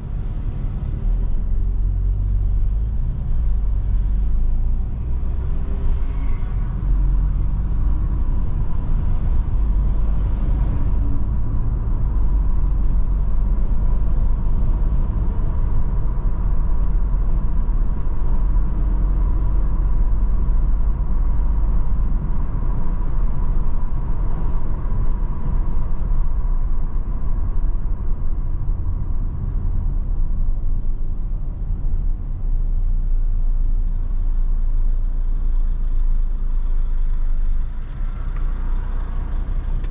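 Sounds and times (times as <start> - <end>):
car driving on paved road: 0.0 - 39.9.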